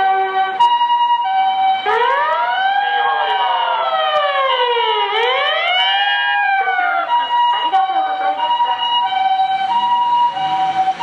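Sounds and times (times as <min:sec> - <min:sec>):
two-tone ambulance siren: 0:00.0 - 0:11.0
wailing siren tone: 0:00.0 - 0:11.0.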